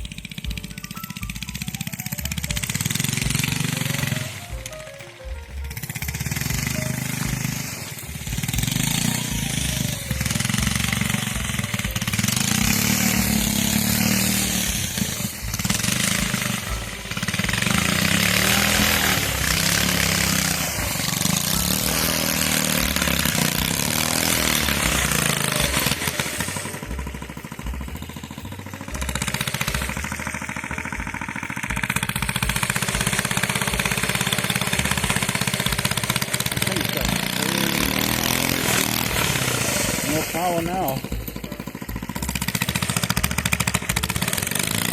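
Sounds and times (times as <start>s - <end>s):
small bike engine revving: 0.0s - 44.9s.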